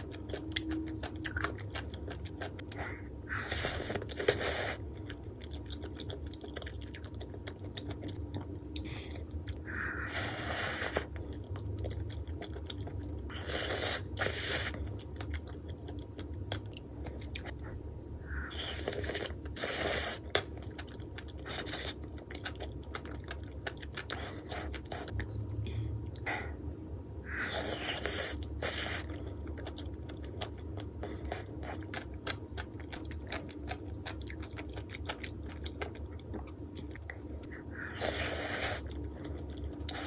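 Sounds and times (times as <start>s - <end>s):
close chewing: 0.0s - 10.2s, 10.8s - 17.6s, 18.5s - 25.4s, 27.5s - 40.0s.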